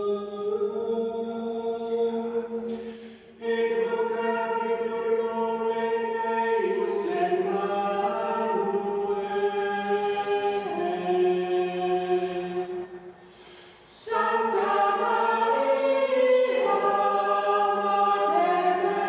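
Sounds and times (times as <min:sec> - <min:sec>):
small choir singing chords: 0:00.0 - 0:19.0.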